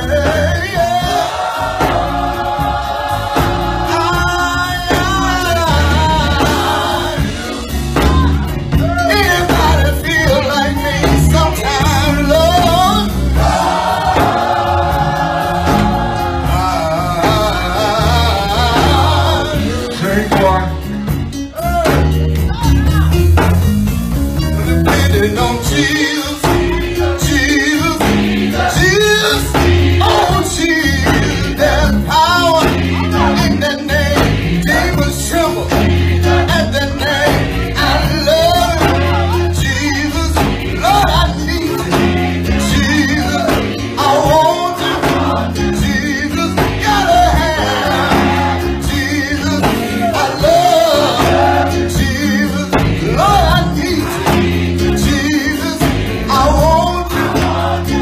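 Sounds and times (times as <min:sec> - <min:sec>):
man singing into a microphone: 0:00.0 - 0:01.4, 0:03.9 - 0:08.2, 0:08.8 - 0:13.2, 0:16.5 - 0:20.9, 0:24.6 - 0:58.0
choir voices: 0:00.0 - 0:20.8, 0:25.2 - 0:58.0
instrumental backing: 0:00.0 - 0:58.0.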